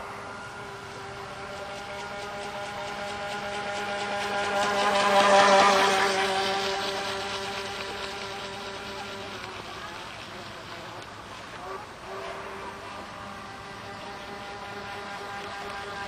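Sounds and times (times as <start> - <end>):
electric motor whine of model boat: 0.0 - 16.0.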